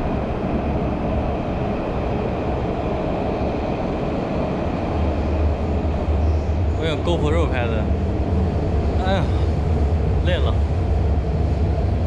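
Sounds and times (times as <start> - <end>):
metro train rumbling: 0.0 - 12.0.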